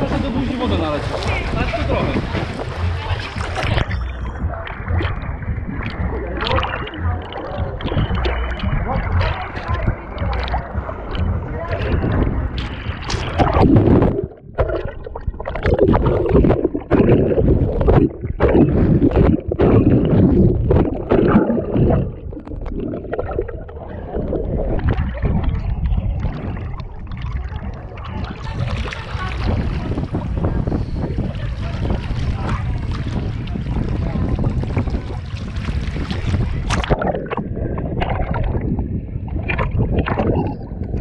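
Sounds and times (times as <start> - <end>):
water rushing: 0.0 - 41.0
wind noise: 0.0 - 41.0.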